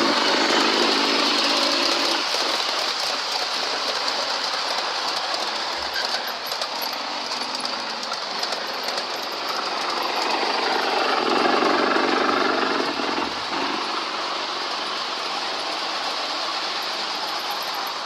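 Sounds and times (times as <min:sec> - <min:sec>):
diesel freight train passing: 0:00.0 - 0:18.0.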